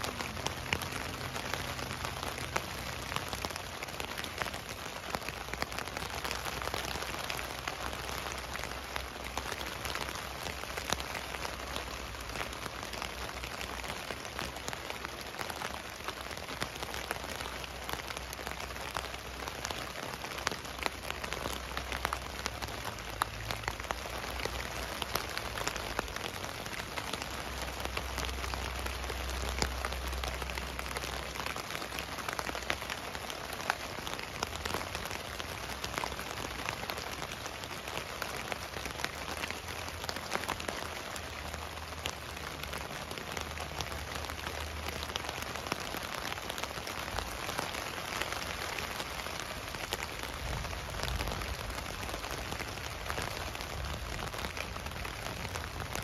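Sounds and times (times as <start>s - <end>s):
rain pattering on a tent: 0.0s - 56.0s.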